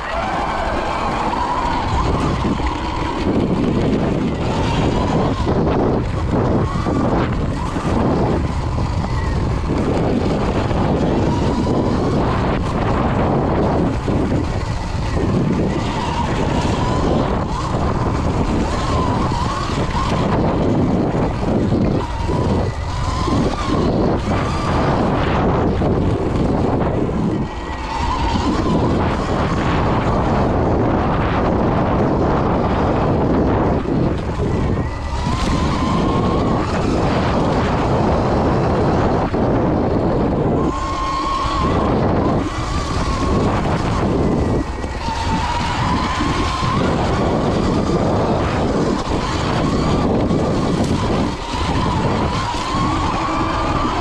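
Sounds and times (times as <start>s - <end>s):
electric motor whine: 0.0s - 54.0s
wind and tyre noise: 0.0s - 54.0s.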